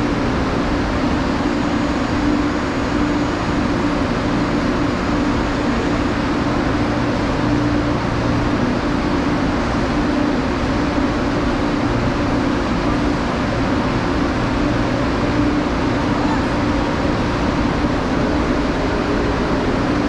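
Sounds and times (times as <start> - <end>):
constant low hum: 0.0 - 20.0
electric train rumble: 0.0 - 20.0.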